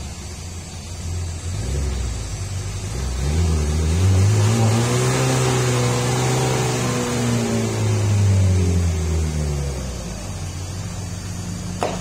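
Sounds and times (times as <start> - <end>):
vehicle engine revving hard: 1.0 - 12.0.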